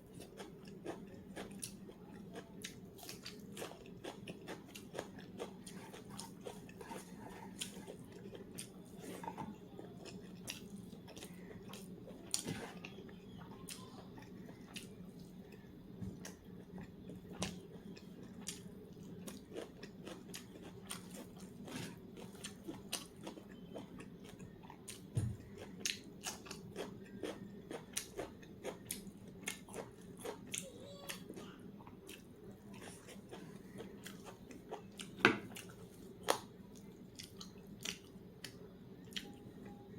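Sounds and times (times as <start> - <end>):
person chewing and crunching: 0.0 - 39.7.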